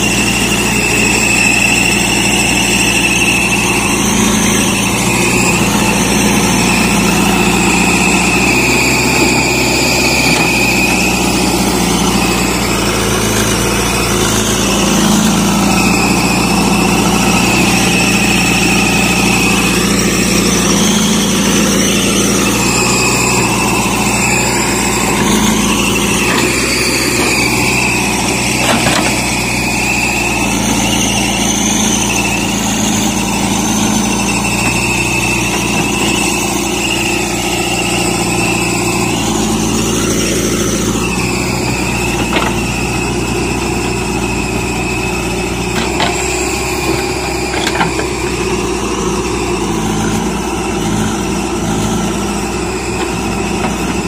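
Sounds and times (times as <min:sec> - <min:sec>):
backhoe digging soil: 0:00.0 - 0:54.0
diesel engine running: 0:00.0 - 0:54.0
high whine: 0:00.0 - 0:54.0.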